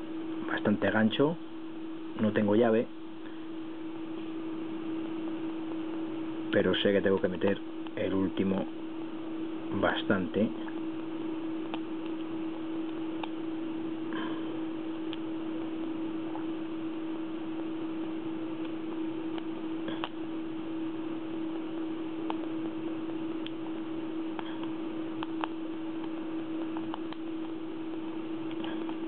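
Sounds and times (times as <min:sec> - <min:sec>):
steady hum and hiss: 0:00.0 - 0:29.0.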